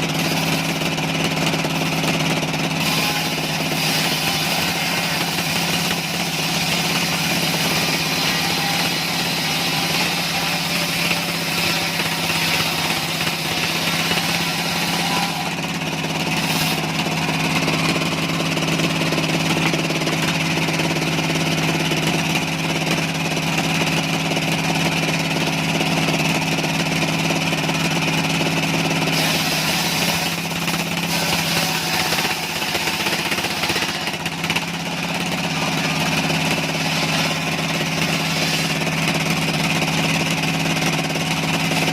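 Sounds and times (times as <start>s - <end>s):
engine hum: 0.0s - 41.9s.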